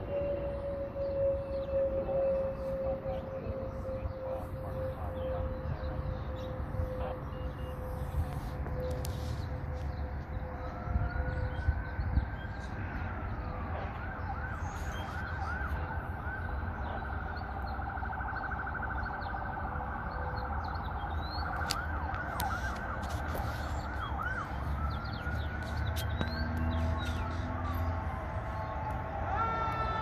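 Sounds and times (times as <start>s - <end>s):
distant fire engine siren: 0.0s - 30.0s.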